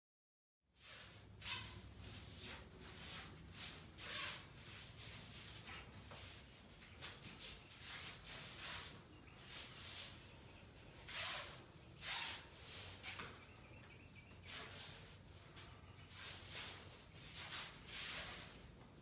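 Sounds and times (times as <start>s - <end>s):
swishes and scuffs of sparring: 0.8s - 13.6s, 14.3s - 18.8s.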